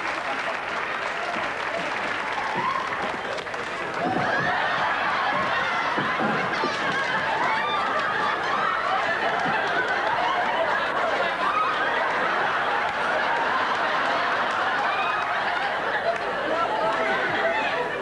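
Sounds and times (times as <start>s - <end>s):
audience laughing: 0.0s - 1.8s, 2.6s - 18.0s.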